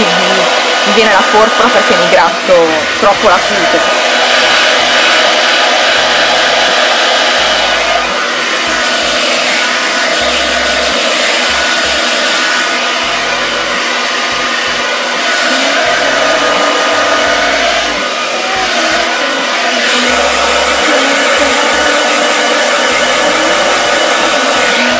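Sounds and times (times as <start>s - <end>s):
hair dryer blowing: 0.0s - 24.9s.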